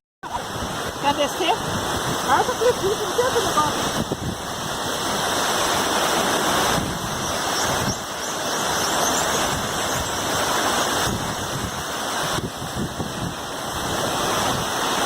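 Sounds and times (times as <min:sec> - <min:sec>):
waterfall rushing: 0:00.2 - 0:15.0.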